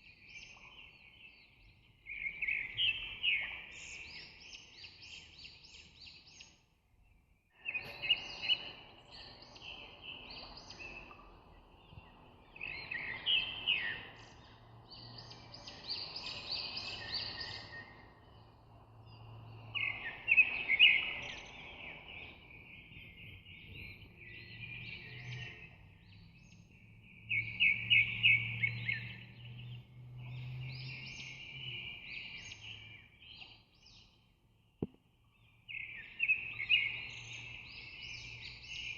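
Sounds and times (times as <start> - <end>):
birds chirping and singing: 0.0 - 6.6, 7.6 - 34.2, 35.4 - 38.9.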